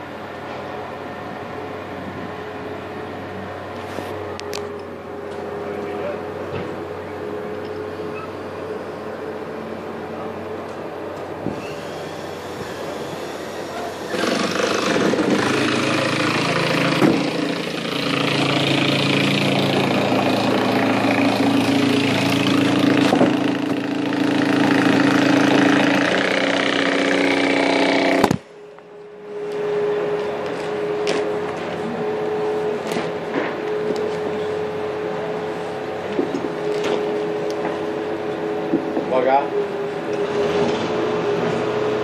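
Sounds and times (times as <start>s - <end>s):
diesel engine revving: 0.0s - 42.0s.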